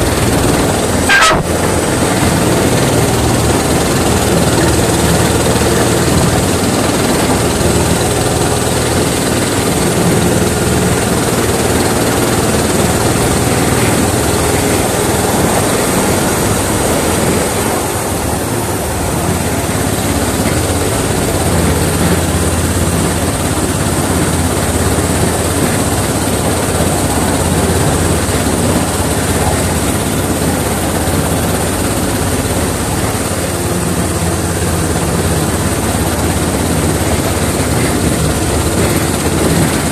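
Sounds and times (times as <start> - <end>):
locomotive low hum: 0.0 - 39.9
train moving: 0.0 - 39.9.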